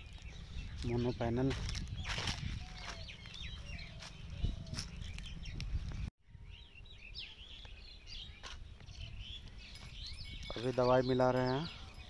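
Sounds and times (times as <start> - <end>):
small birds chirping: 0.0 - 12.0
wind rumbling on microphone: 0.0 - 12.0.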